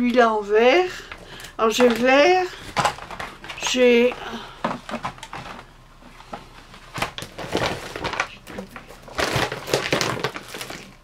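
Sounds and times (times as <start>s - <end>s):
crinkly packaging rustling: 1.0s - 11.0s.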